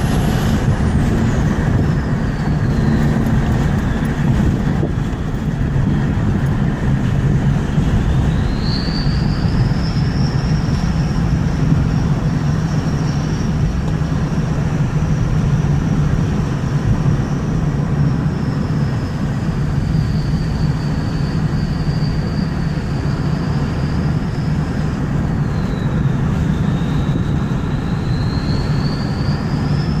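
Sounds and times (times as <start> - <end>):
turbocharger whistle: 0.0 - 6.1, 7.7 - 14.4, 17.1 - 30.0
truck engine droning: 0.0 - 30.0.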